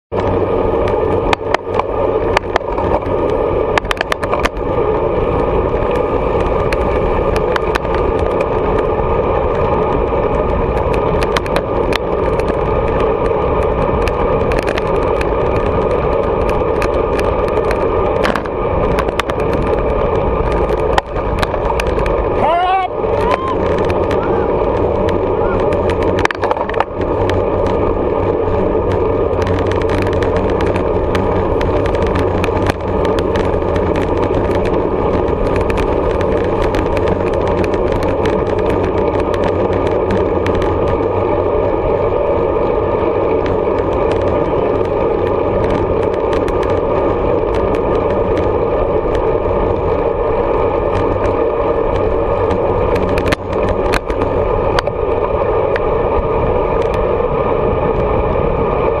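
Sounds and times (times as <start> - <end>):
bicycle road and wind noise: 0.0 - 59.0
bike rattles and clicks: 0.1 - 59.0.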